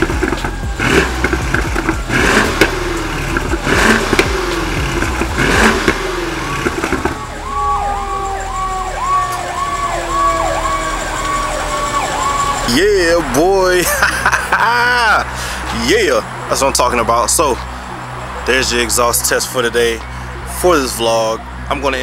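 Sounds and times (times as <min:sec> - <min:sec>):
emergency siren yelping: 0:00.0 - 0:18.9
car engine revving: 0:00.0 - 0:22.0.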